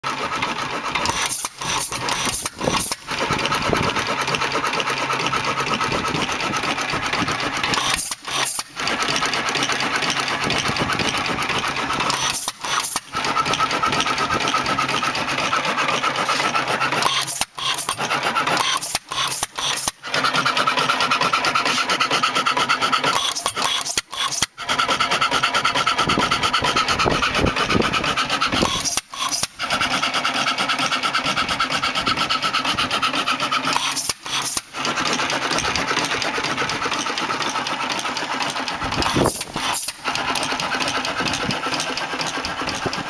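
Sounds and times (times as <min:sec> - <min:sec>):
engine mechanical clatter: 0:00.0 - 0:43.0.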